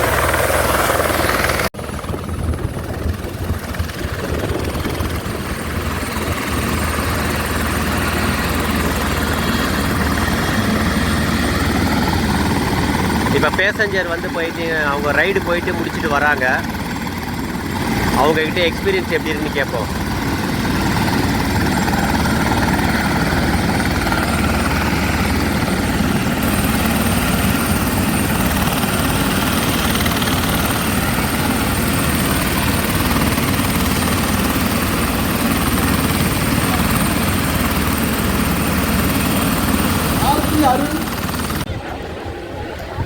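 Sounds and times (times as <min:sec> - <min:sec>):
helicopter rotor chop: 0:00.0 - 0:42.6.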